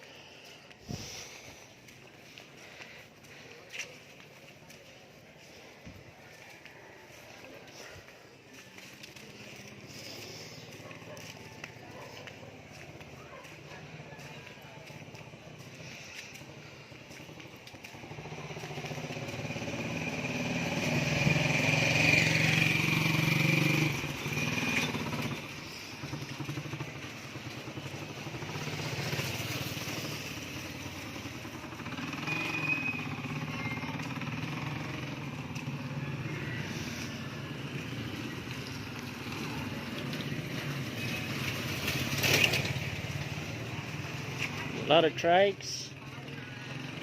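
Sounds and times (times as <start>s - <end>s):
motorcycle passing: 0.0s - 47.0s.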